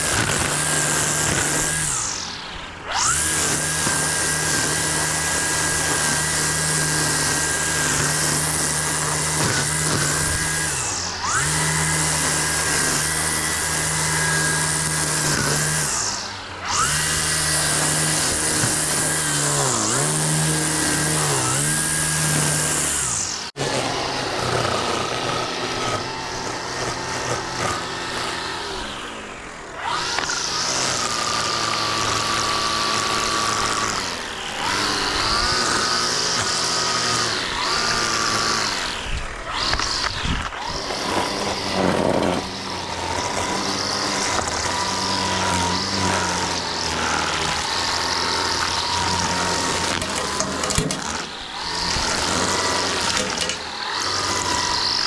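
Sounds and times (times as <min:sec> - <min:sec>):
string trimmer motor whining: 0:00.0 - 0:55.0.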